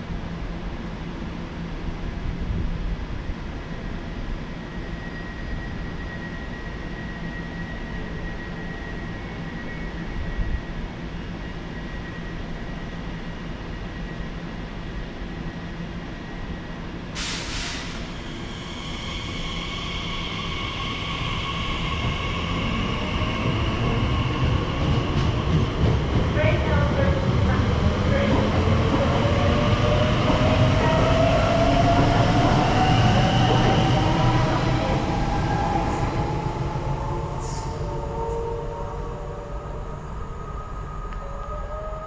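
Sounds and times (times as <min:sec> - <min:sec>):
train approaching with high tones: 0:00.0 - 0:42.0.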